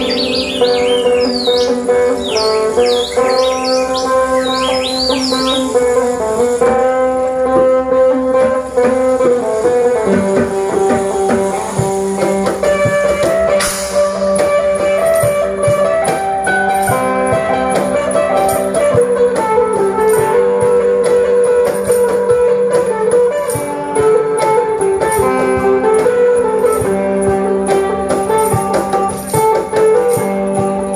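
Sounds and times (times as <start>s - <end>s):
plucked lute melody over drone: 0.0s - 30.9s
rattling percussion beat: 0.0s - 30.9s.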